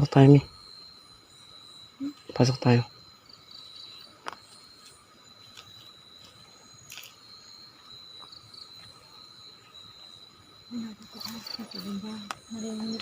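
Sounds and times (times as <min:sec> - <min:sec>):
night insects trilling: 0:00.0 - 0:13.0.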